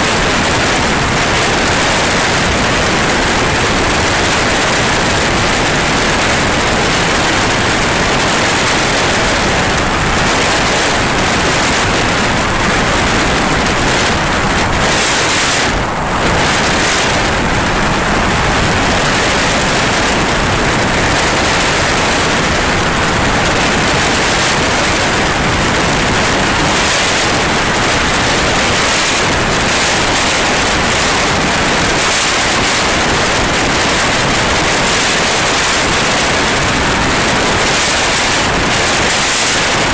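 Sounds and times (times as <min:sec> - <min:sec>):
light aircraft in flight: 0:00.0 - 0:39.9.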